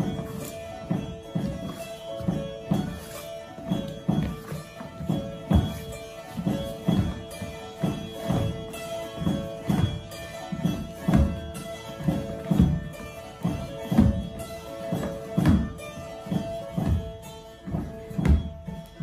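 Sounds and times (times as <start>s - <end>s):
drone zither playing dance tune: 0.0s - 19.0s
feet thumping on wooden floor: 0.0s - 19.0s.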